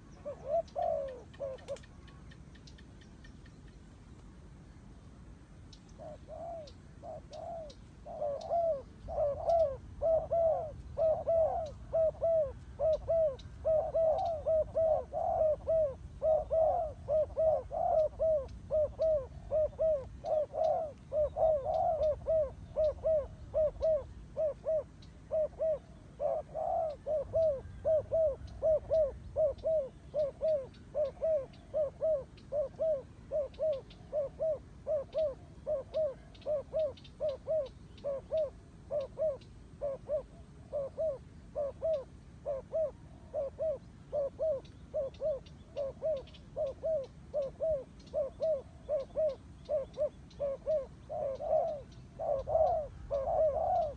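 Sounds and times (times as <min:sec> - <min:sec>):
doves cooing: 0:00.0 - 0:02.8, 0:05.9 - 0:53.9.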